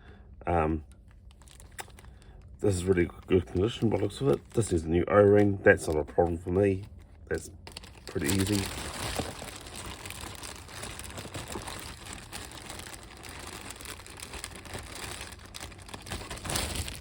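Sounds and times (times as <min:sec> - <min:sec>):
plastic packaging rustling: 0:00.9 - 0:17.0.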